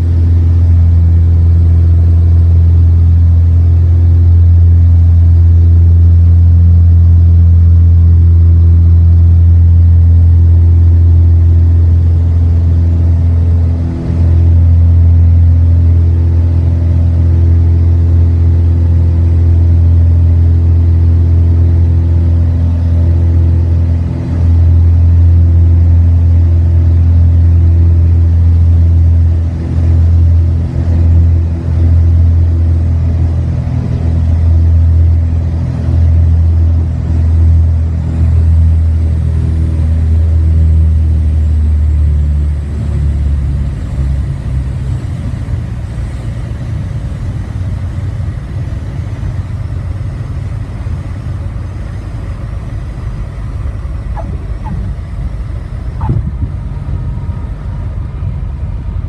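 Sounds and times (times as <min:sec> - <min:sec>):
plane rolling on runway: 0:00.0 - 0:59.0
twin piston aircraft engines droning: 0:00.0 - 0:59.0.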